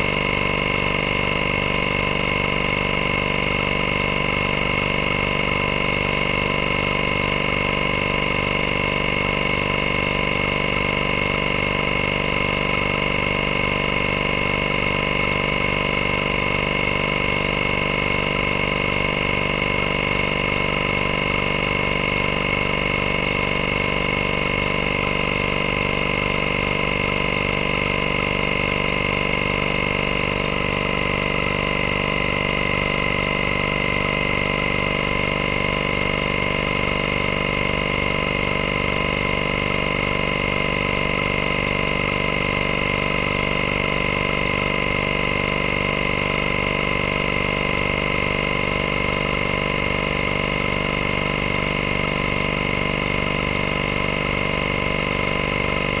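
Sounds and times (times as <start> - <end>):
suction pump pulsing: 0.0 - 56.0.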